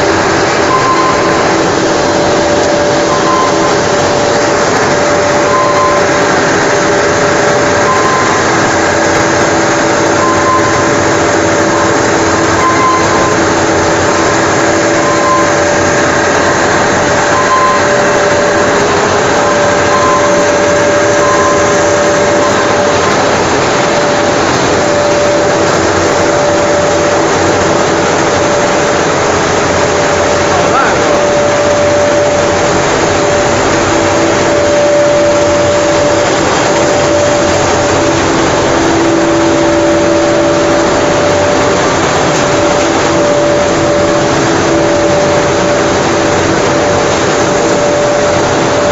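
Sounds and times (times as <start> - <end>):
production line machinery running: 0.0 - 48.9.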